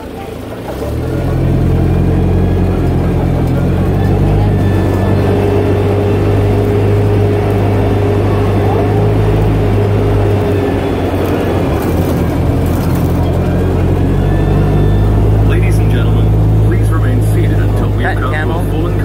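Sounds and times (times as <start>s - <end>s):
road and running noise: 0.0s - 19.0s
tram engine hum: 0.0s - 19.0s.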